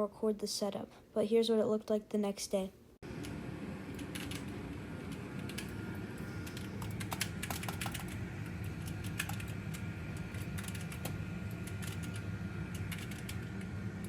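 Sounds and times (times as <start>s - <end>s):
steady low hum: 2.7s - 14.0s.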